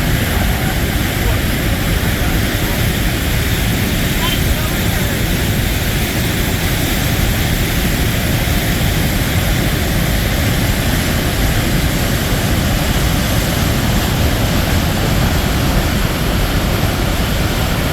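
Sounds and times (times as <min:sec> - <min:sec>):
waterfall roaring: 0:00.0 - 0:17.9.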